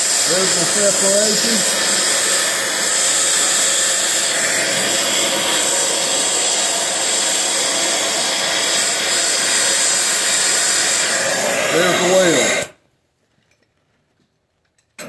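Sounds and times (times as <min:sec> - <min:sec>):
cutting torch hissing roar: 0:00.0 - 0:12.8.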